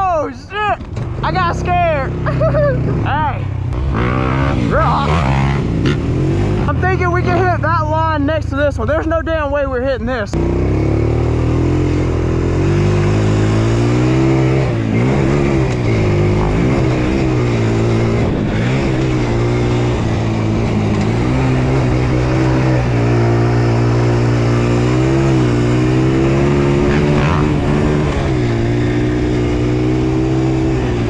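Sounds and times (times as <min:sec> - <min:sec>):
dirt bike engine running: 0:00.7 - 0:09.8, 0:10.4 - 0:31.0.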